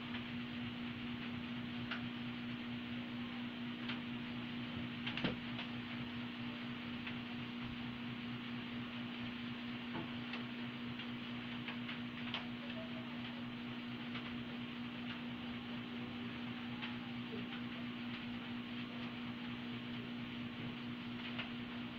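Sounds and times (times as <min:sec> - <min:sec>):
low room hum and hiss: 0:00.0 - 0:21.9.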